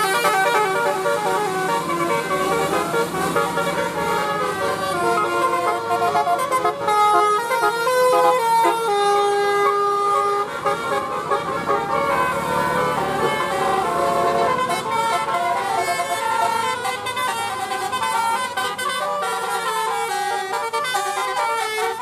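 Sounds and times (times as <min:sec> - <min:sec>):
bus engine noise: 0:00.0 - 0:22.0
musical air horn playing a tune: 0:00.0 - 0:22.0.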